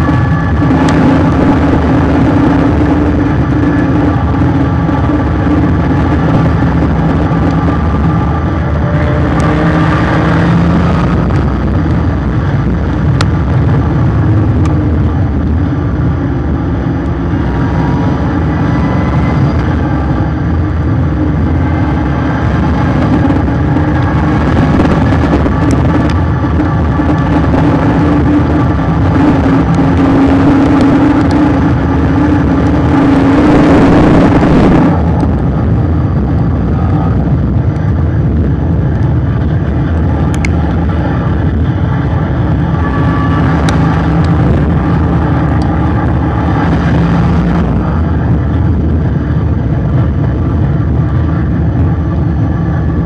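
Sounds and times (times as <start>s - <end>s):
car engine at speed: 0.0s - 53.0s
road noise: 0.0s - 53.0s.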